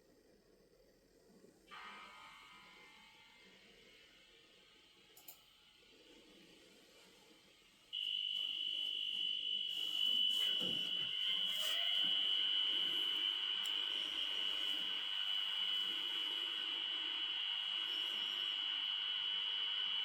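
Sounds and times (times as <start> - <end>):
electric train high whine: 0.2 - 20.0.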